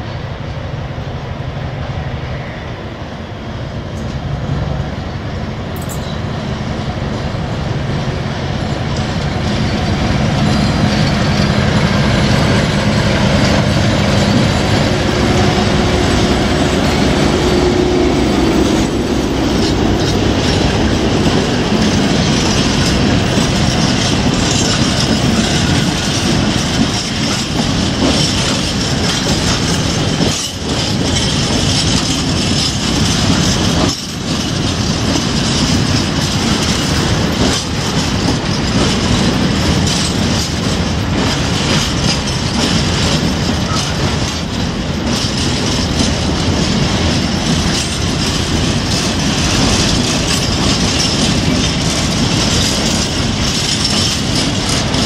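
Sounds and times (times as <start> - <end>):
diesel locomotive engine hum: 0.0 - 55.0
wheels clattering over rail joints: 5.7 - 55.0.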